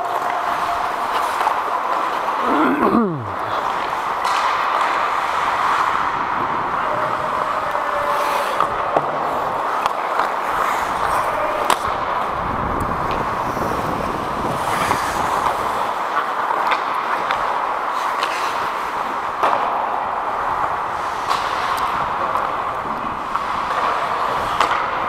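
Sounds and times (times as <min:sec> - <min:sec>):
hockey sticks and puck clacking: 0:00.0 - 0:25.0
skates hissing on ice: 0:03.4 - 0:12.2, 0:12.8 - 0:25.0.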